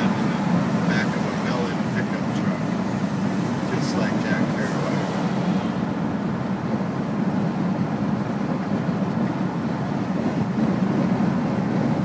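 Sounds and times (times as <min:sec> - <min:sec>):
car road noise from cabin: 0:00.0 - 0:12.0.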